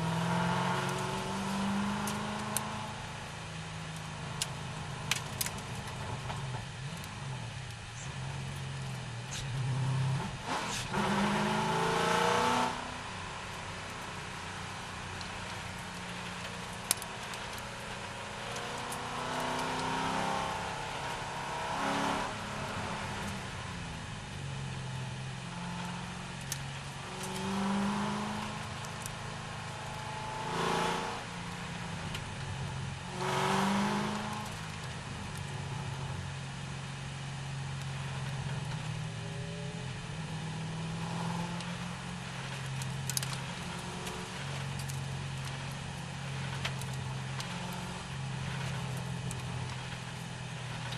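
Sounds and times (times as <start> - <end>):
racing car engine revving: 0.0 - 3.4, 4.0 - 37.3, 38.0 - 50.9.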